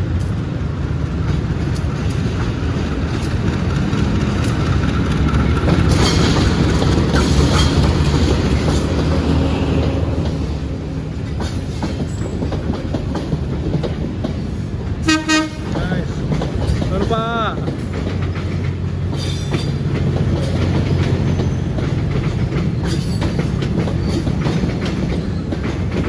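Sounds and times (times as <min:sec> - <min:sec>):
train low rumble: 0:00.0 - 0:26.0
train wheels clacking over rail joints: 0:00.0 - 0:26.0.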